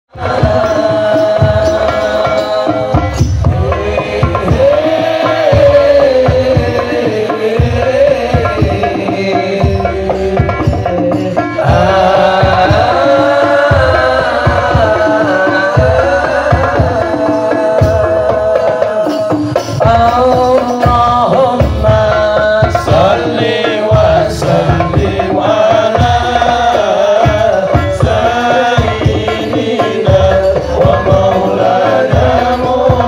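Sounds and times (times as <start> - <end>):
person singing long lines: 0.1 - 33.0.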